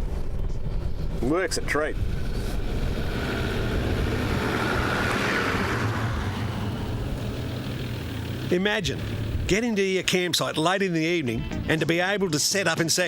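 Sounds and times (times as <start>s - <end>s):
road noise hiss: 0.0s - 10.5s
vehicle engine running: 0.0s - 11.7s.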